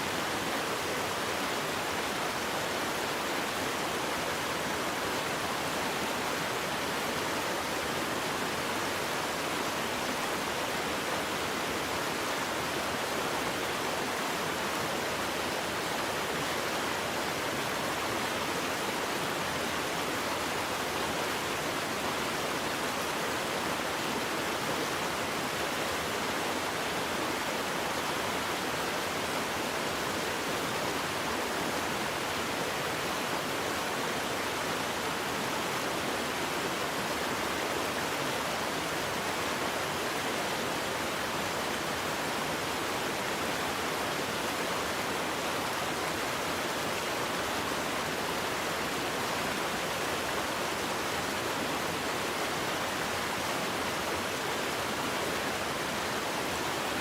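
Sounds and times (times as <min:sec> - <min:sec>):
rush of falling water: 0:00.0 - 0:57.0.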